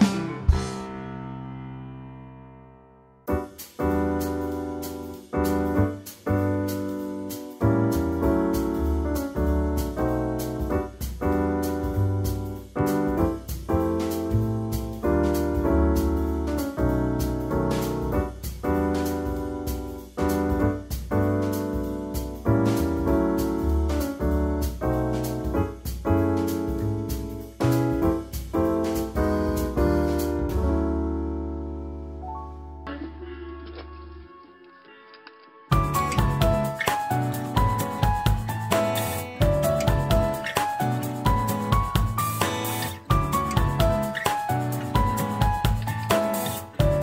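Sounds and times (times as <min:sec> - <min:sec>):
piano chords: 0:00.0 - 0:47.0.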